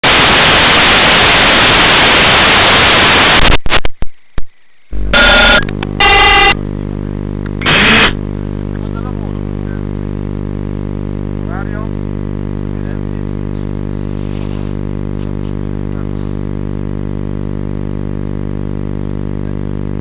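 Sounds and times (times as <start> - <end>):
static crackles: 0.0 - 20.0
steady hum: 0.0 - 20.0
video receiver static hiss: 0.0 - 20.0.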